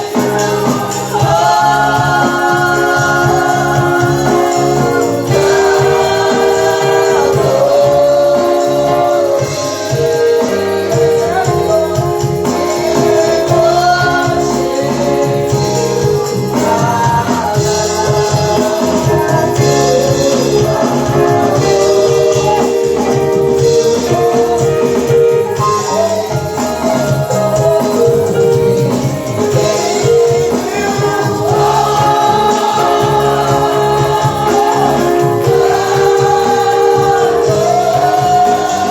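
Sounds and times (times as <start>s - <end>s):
held instrumental chords: 0.0s - 38.9s
percussive beat: 0.0s - 38.9s
voices singing together: 0.0s - 38.9s.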